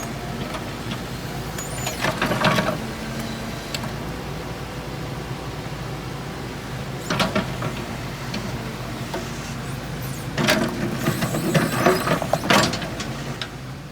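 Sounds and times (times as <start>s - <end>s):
excavator diesel engine running: 0.0s - 13.9s.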